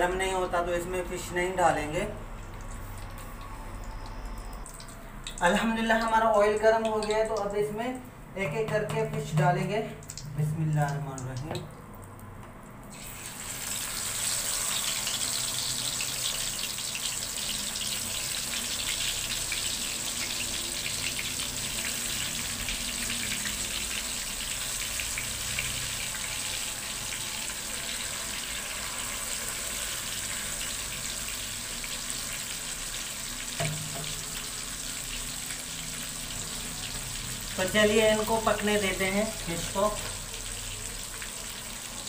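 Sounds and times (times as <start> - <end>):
fish deep-frying in oil: 1.1 - 7.7, 8.5 - 42.0.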